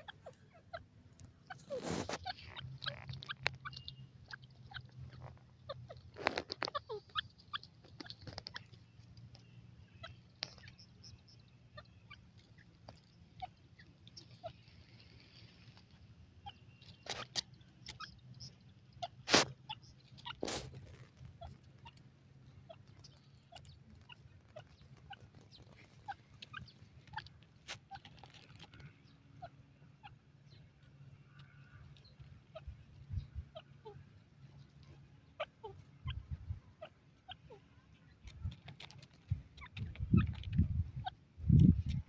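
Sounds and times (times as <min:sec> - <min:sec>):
bird pecking dry soil: 0:00.0 - 0:42.0.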